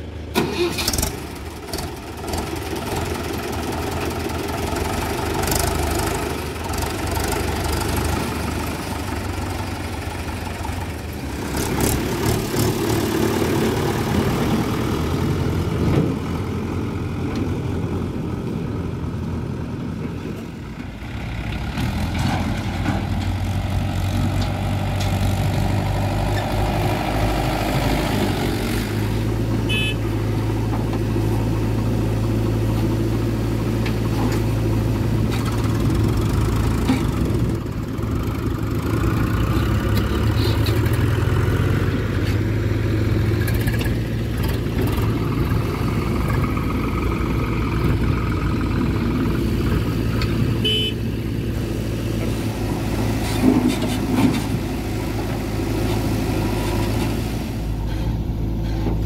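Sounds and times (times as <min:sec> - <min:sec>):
backhoe digging earth: 0:00.0 - 0:59.0
diesel engines running: 0:00.0 - 0:59.0.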